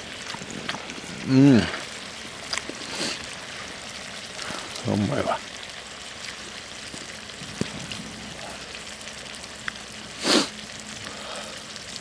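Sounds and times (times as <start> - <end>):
campfire crackles: 0.0 - 12.0
food sizzling in a pan: 0.0 - 12.0.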